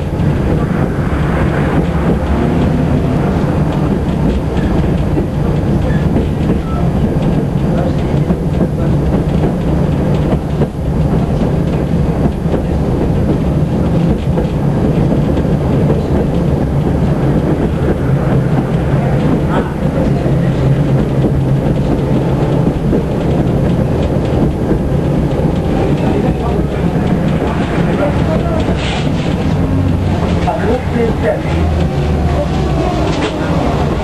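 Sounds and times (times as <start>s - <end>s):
tram wheels rumbling on rail: 0.0s - 34.0s.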